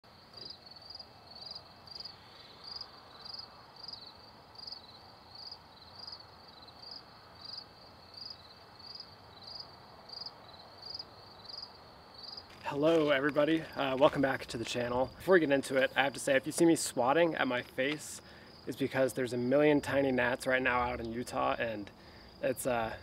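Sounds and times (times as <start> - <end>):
crickets chirping: 0.1 - 23.0.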